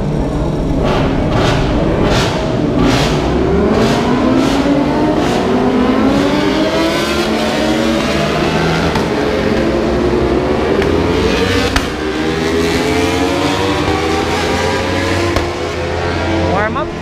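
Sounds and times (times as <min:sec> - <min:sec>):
motorcycle engines accelerating: 0:00.0 - 0:17.0.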